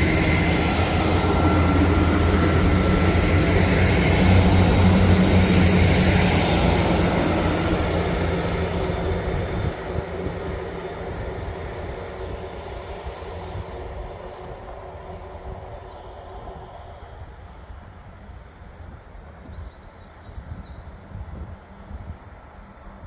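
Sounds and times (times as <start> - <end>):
train engine and wheel rumble: 0.0 - 23.0.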